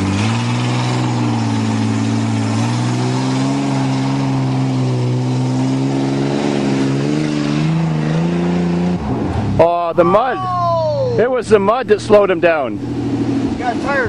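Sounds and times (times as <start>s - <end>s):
truck engine at full throttle: 0.0s - 14.0s.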